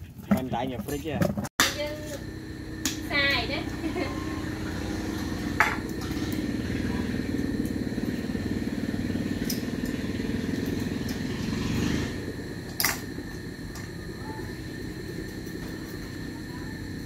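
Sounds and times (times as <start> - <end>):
small motorcycle engine running: 1.6 - 17.0.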